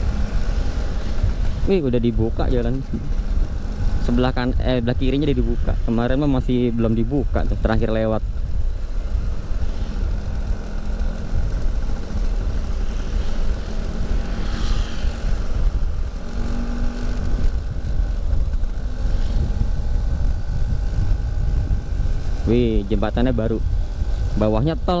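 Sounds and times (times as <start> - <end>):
scooter engine running: 0.0 - 25.0
wind rumble on microphone: 0.0 - 25.0.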